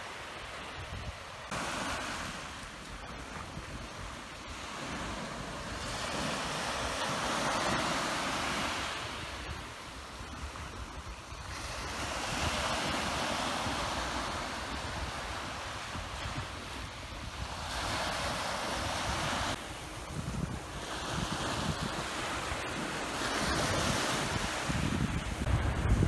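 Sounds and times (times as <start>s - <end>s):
sea waves breaking: 0.0s - 26.0s
wind rumbling on microphone: 0.5s - 26.0s.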